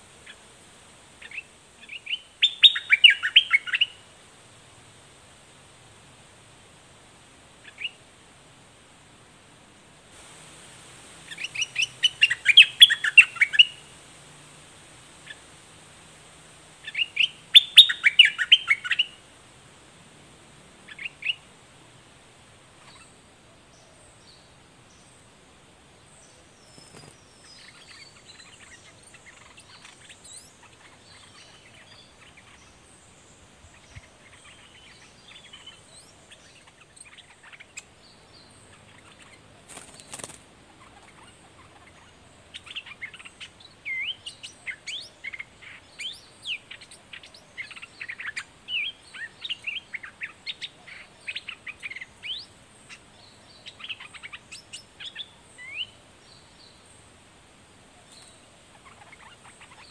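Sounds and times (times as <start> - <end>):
birds chirping: 1.2 - 4.0, 11.1 - 19.3, 20.1 - 22.0, 22.6 - 25.4, 26.0 - 57.2, 58.0 - 59.9.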